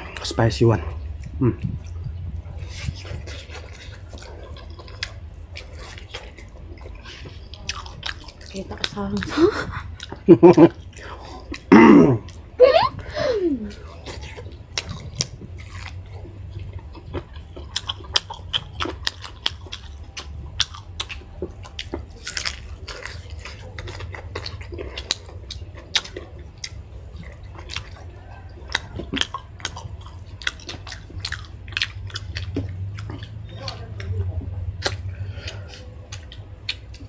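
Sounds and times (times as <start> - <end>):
chewing and mouth sounds: 0.0 - 37.0
low steady hum: 0.0 - 37.0.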